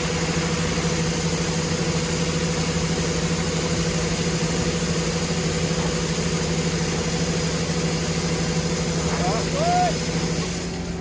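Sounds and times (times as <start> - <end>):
harvester engine humming: 0.0 - 11.0.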